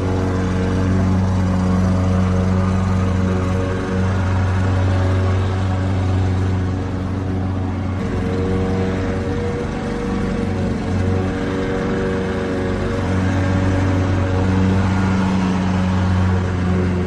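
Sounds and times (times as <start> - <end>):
lawnmower engine running: 0.0 - 17.0.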